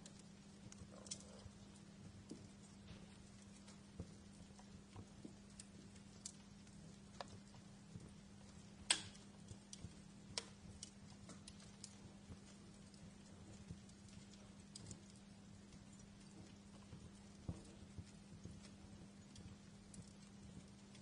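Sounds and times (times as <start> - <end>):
wood fire crackling in fireplace: 0.0 - 21.0.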